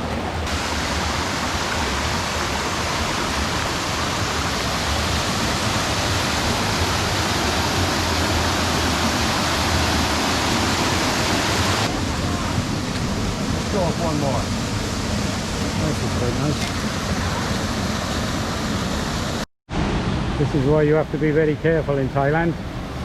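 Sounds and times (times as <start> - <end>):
river and waterfall rushing: 0.0 - 23.0.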